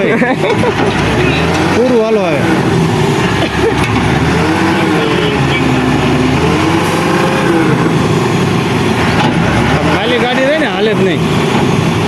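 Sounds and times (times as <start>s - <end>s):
vehicle motor running: 0.0s - 12.0s.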